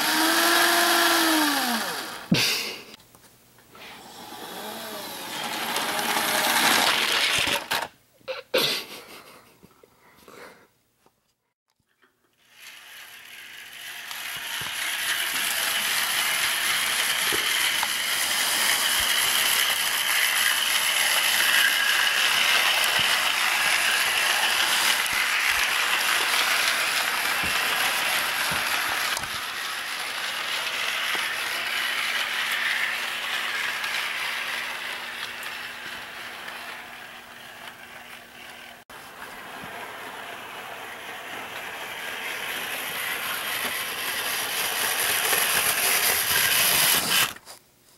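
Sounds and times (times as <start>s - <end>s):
model train motor whirring: 0.0s - 2.4s, 4.1s - 7.9s, 12.4s - 47.4s.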